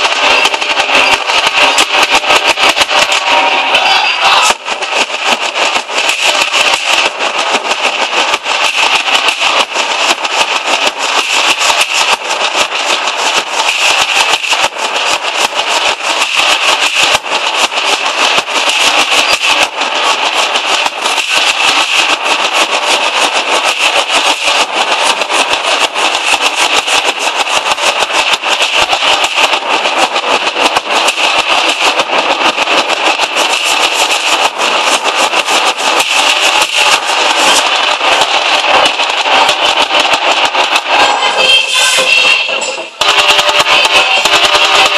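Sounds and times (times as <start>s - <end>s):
many drums beaten together: 0.0s - 3.4s, 4.2s - 41.3s, 43.0s - 44.9s.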